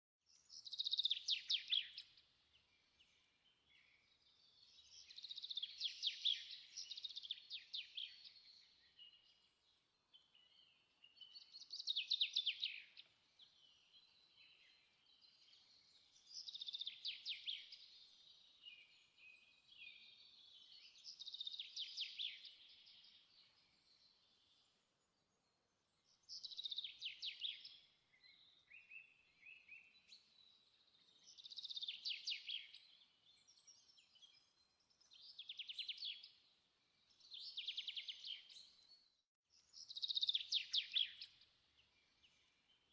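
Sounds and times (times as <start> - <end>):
songbird chirping trills: 0.3 - 42.9.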